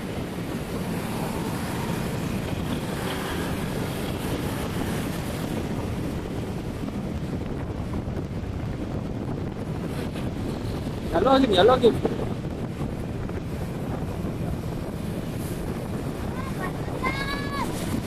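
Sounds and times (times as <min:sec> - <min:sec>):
road and engine rumble: 0:00.0 - 0:18.0
wind buffeting microphone: 0:00.0 - 0:18.0.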